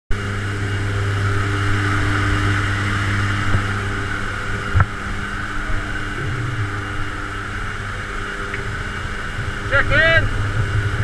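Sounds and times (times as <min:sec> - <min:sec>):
plane engine and propeller droning: 0:00.1 - 0:11.0.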